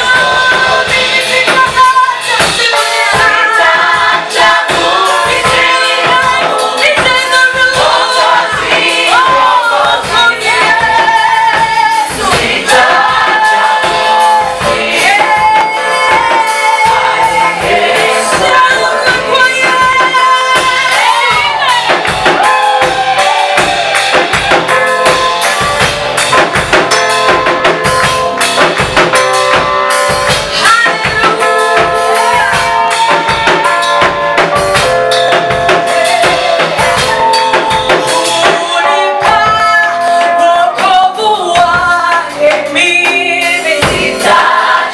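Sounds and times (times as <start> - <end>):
choir singing gospel song: 0.0 - 26.0, 30.2 - 44.9
drum kit beat: 0.0 - 44.9.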